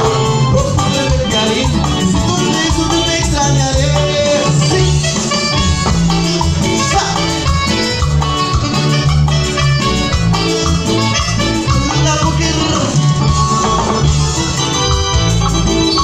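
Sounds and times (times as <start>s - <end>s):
live band through pa: 0.0s - 16.0s.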